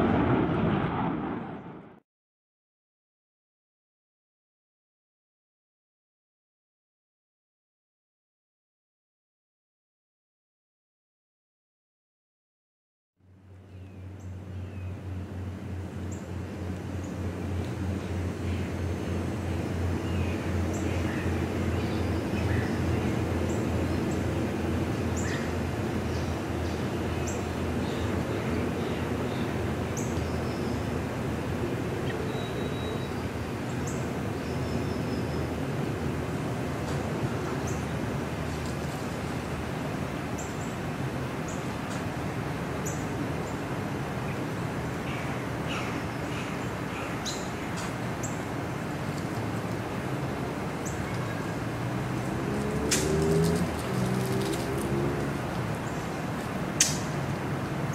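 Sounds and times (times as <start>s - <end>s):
low drone of turboprop aircraft: 0.0s - 2.0s, 13.2s - 57.9s.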